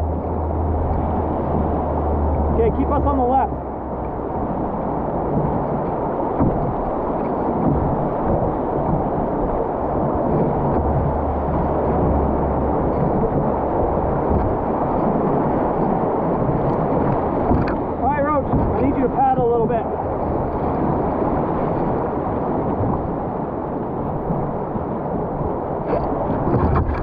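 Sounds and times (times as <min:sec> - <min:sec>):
whitewater rapids rushing: 0:00.0 - 0:27.0
wind buffeting microphone: 0:00.0 - 0:27.0.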